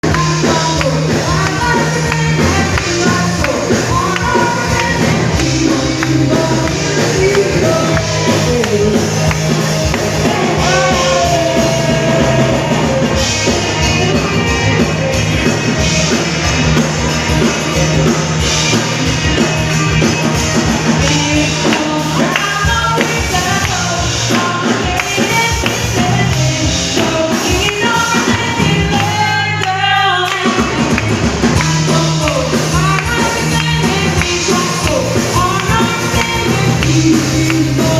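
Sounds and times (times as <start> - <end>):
singer over drums and bass: 0.0 - 37.9.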